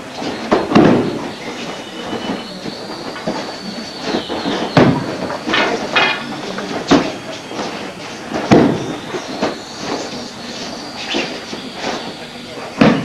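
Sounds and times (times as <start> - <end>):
shuffling feet: 0.0 - 13.0.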